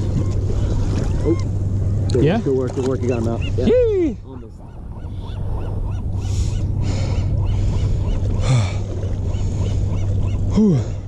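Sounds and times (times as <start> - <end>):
water splashing: 0.0 - 4.8, 6.2 - 10.9.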